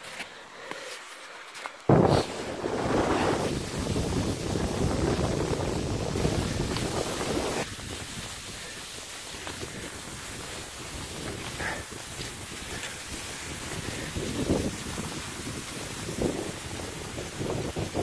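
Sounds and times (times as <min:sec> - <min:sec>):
wind buffeting microphone: 0:01.9 - 0:18.0.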